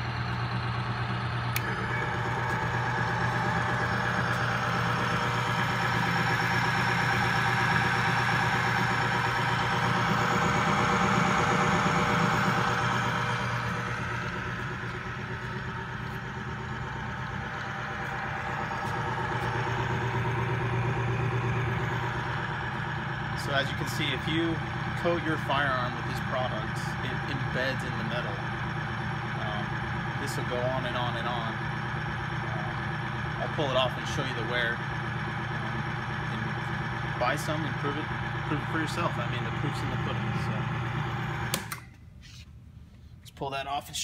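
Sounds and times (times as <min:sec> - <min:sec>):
electric motor humming: 0:00.0 - 0:41.7
bearing whine: 0:00.0 - 0:43.2.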